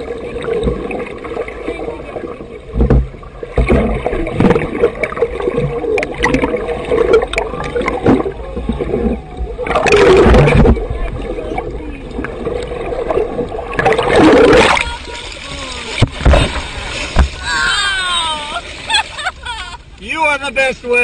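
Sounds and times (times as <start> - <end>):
rush of bubbles and water: 0.0 - 19.2
water churning and gurgling: 0.0 - 21.0.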